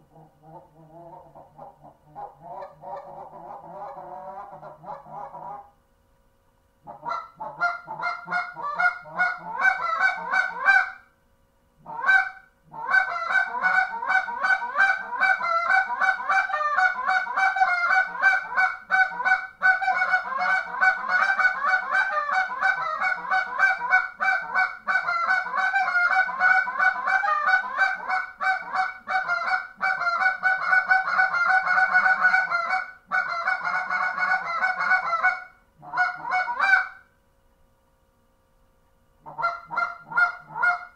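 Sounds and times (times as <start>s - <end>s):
goose call honks and clucks: 0.1s - 5.7s, 6.9s - 11.1s, 11.8s - 37.1s, 39.2s - 40.9s.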